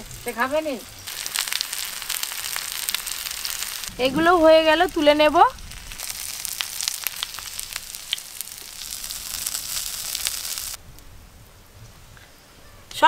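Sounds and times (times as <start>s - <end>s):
food sizzling in oil: 0.0s - 10.8s.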